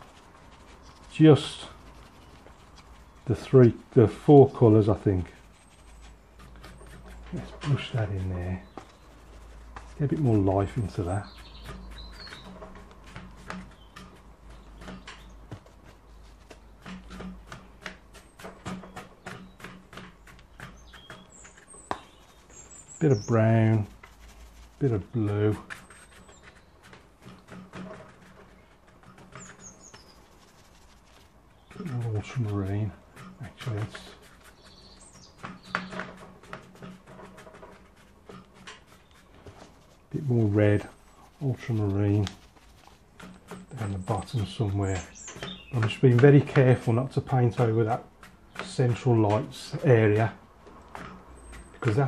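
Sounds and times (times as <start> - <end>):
brush scratching on wet paper: 0.0 - 50.4.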